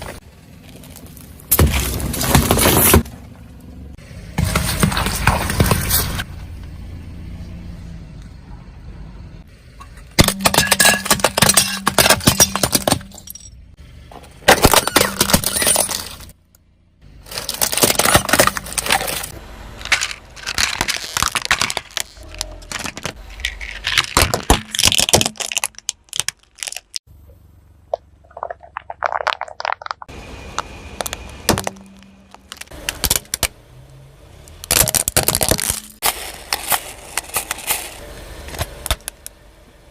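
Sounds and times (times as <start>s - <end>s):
objects crunching under car tyres: 0.0s - 3.4s, 4.3s - 6.3s, 9.8s - 13.5s, 14.1s - 16.4s, 17.1s - 27.1s, 27.9s - 39.3s.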